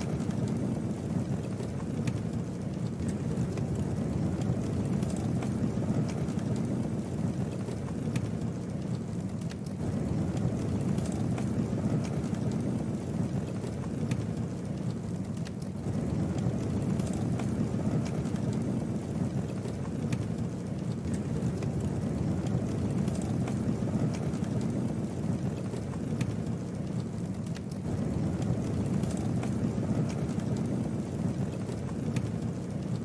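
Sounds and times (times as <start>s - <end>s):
burning wood crackling and popping: 0.0s - 33.0s
low rush of flame: 0.0s - 33.0s.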